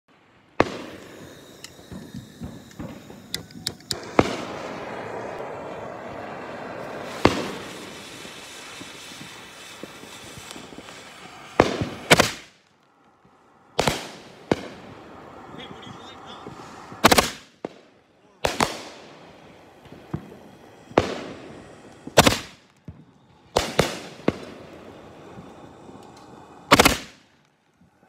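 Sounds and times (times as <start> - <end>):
fireworks crackling: 0.1 - 28.0
firework bangs: 0.2 - 28.0.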